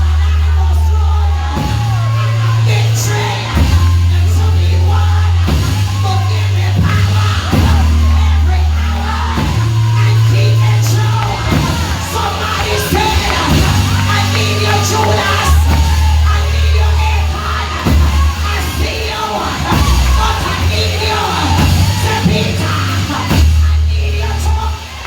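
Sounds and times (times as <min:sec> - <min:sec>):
gospel band playing: 0:00.0 - 0:25.0
voices singing and shouting: 0:00.0 - 0:25.0.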